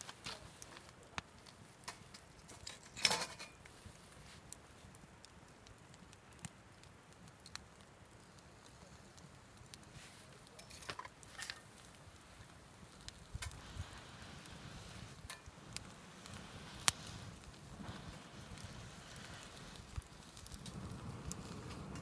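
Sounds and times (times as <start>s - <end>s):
sharp crack of fire: 0.0s - 22.0s
wood fire crackling: 0.0s - 22.0s.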